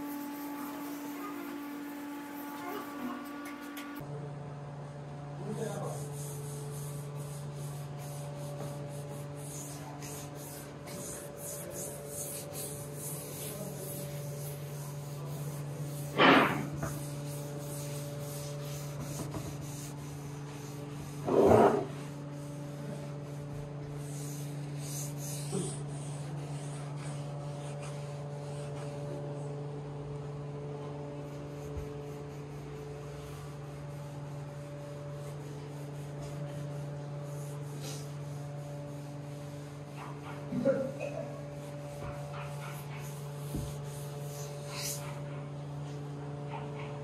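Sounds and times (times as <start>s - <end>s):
rubbing strokes on wood: 0.0s - 4.1s, 5.5s - 46.6s.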